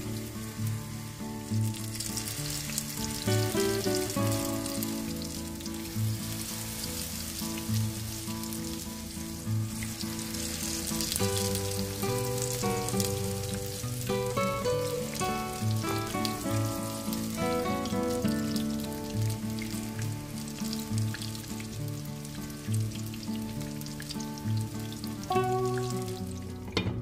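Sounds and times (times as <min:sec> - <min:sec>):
batter sizzling in hot oil: 0:00.0 - 0:26.7
background music: 0:00.0 - 0:27.0.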